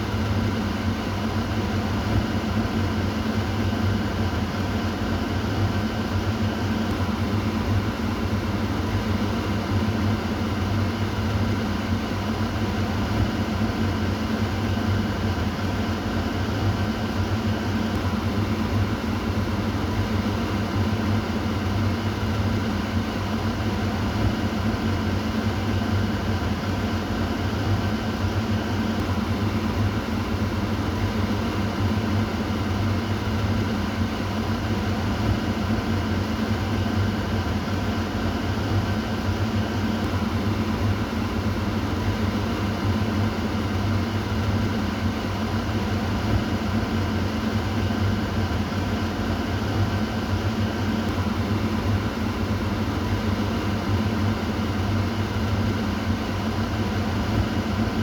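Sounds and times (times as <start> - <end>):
exhaust fan running: 0.0 - 58.0.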